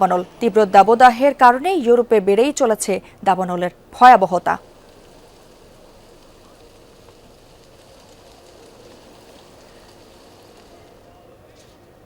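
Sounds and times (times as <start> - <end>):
wildfire crackling hiss: 0.0 - 12.0.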